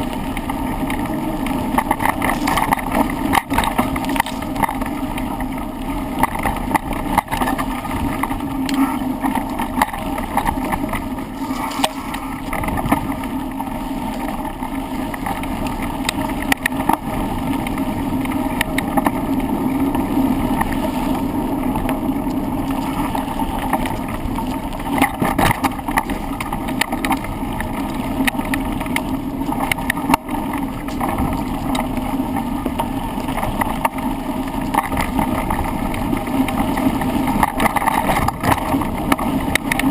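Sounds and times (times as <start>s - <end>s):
bike rattling and knocking: 0.0s - 39.9s
rush of tyres and wind: 0.0s - 39.9s.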